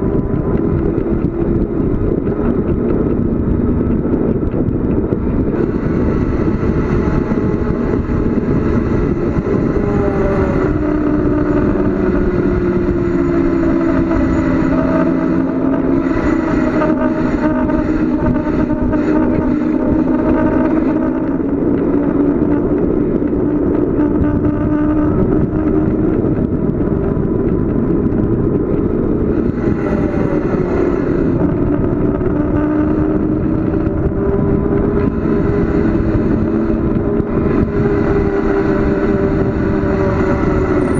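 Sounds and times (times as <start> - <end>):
hum rising and falling: 0.0 - 40.9
wind and road noise: 0.0 - 40.9.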